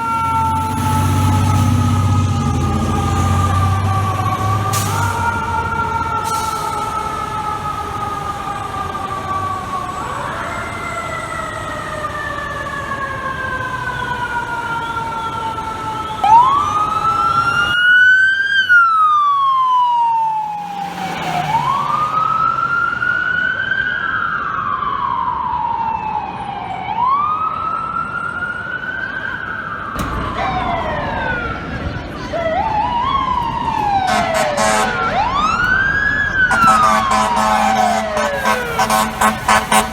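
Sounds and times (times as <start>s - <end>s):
fire truck siren wailing: 0.0s - 39.9s.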